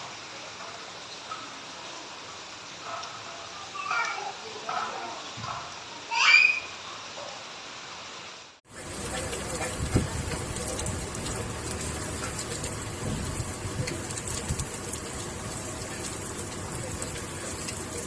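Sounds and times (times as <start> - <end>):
raindrops ticking on surfaces: 0.0 - 5.9, 8.7 - 18.0
rain falling: 0.0 - 18.0.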